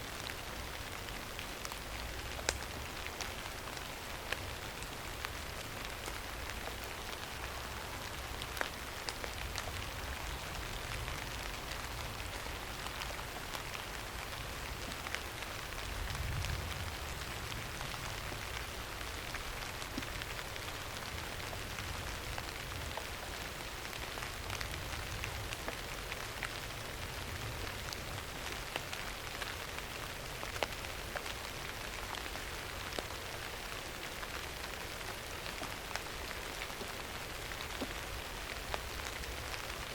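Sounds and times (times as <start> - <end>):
steady rain hiss: 0.0 - 39.9
raindrops ticking: 0.2 - 39.9.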